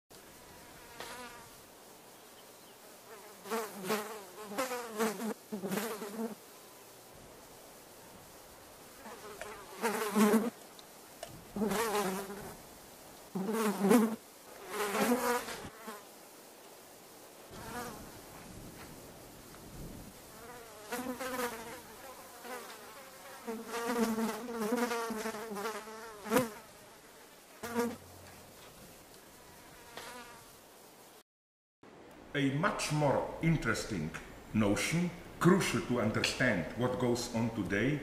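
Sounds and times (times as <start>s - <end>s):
flies buzzing: 0.1s - 31.2s.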